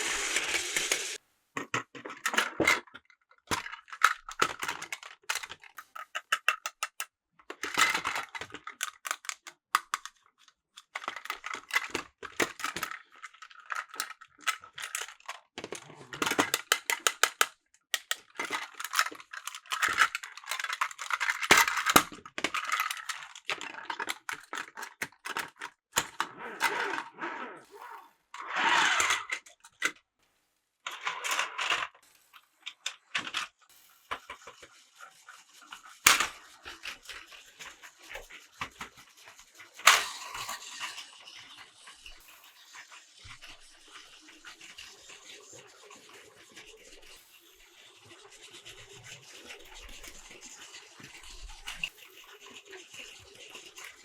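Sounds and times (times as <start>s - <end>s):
plastic toy train clicking: 0.0s - 27.0s, 28.4s - 30.0s, 30.9s - 54.0s.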